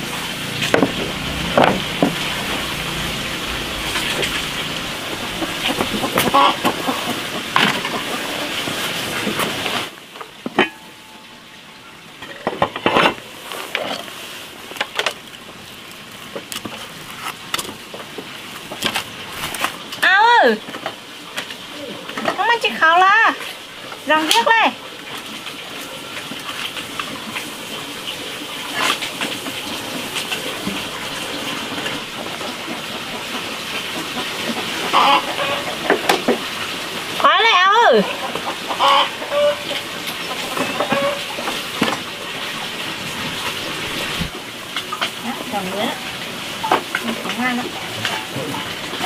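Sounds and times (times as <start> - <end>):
food frying in a pan: 0.0 - 49.0
water running: 0.0 - 49.0.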